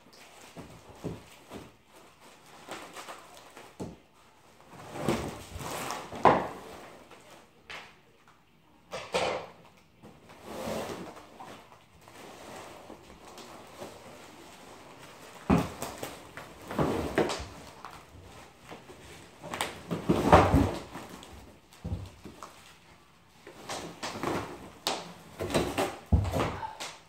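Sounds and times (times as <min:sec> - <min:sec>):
bubble wrap and plastic rustling: 0:00.0 - 0:08.5, 0:09.6 - 0:27.0.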